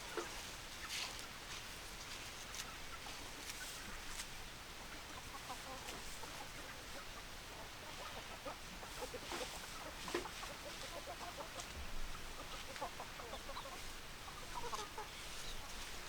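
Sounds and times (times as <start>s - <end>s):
faint steady hiss: 0.0s - 16.0s
hens clucking: 0.1s - 16.0s.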